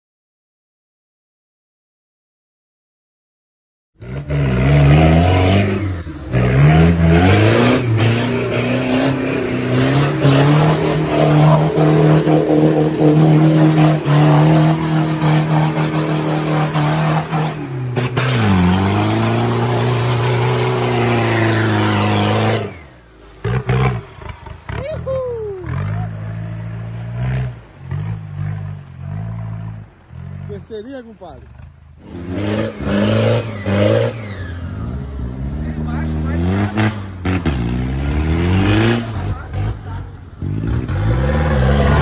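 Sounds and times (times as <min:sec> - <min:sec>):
engine revving hard: 0:04.0 - 0:29.8, 0:32.0 - 0:42.0.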